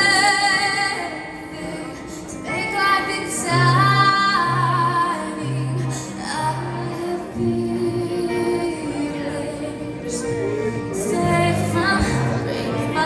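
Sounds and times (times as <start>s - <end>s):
acoustic guitar: 0.0s - 13.0s
woman singing lead: 0.0s - 13.0s.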